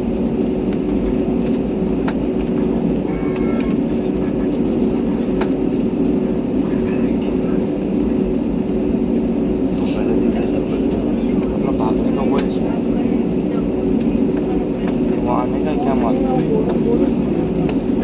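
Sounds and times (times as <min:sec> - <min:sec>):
airliner cabin engine drone: 0:00.0 - 0:18.0
constant hum: 0:00.0 - 0:18.0.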